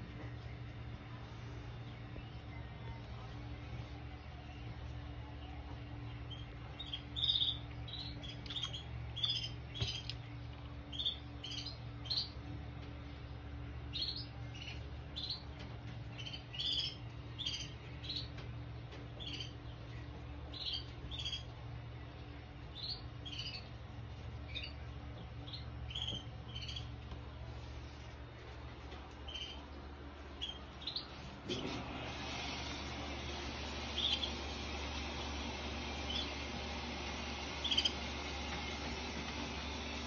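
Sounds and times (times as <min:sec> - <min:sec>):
steady low hum: 0:00.0 - 0:40.0
young canaries chirping: 0:00.3 - 0:28.2, 0:28.8 - 0:31.3, 0:33.2 - 0:40.0.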